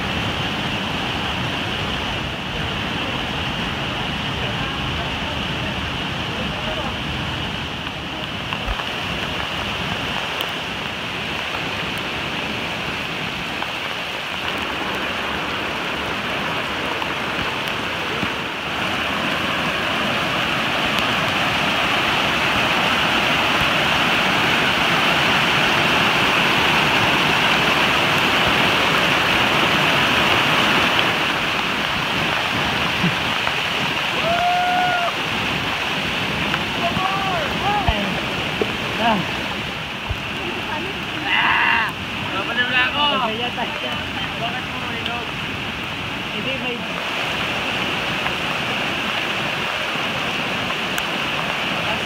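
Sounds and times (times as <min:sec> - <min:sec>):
floodwater rushing over rocks: 0:00.0 - 0:52.0.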